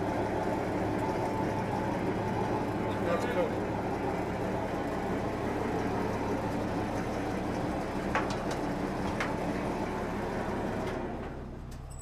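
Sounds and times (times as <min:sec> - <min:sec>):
machinery running with low hum: 0:00.0 - 0:12.0.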